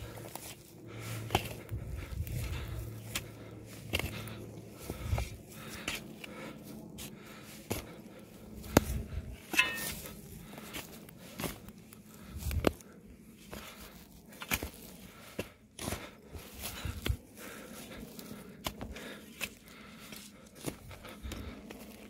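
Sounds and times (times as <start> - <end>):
footsteps on dry grass: 0.0 - 22.0.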